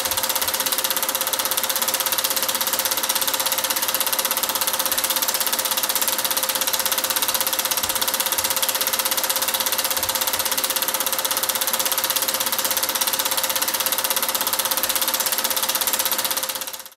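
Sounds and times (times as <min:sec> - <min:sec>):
film projector clatter: 0:00.0 - 0:16.9.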